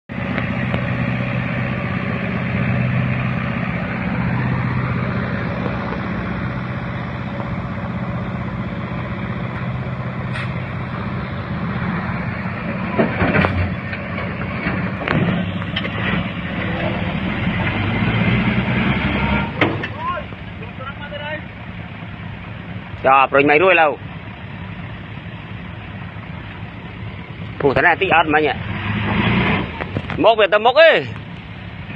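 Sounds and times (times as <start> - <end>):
road noise: 0.0 - 31.9
truck engine running: 0.1 - 31.9.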